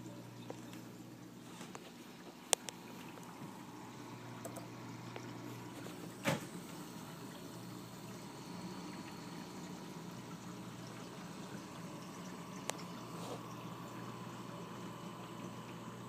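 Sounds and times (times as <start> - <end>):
aquarium pump hum: 0.0 - 16.0
circulating water wash: 0.0 - 16.0.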